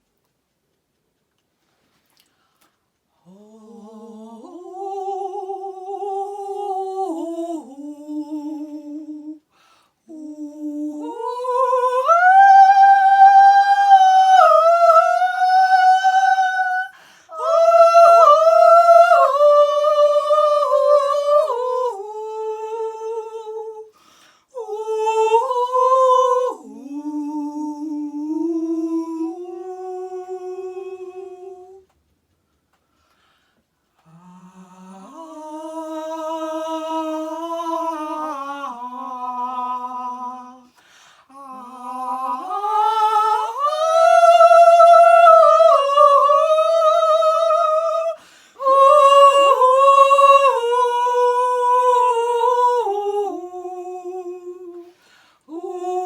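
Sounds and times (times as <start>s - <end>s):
woman singing slow melody: 3.2s - 31.9s, 34.0s - 56.0s.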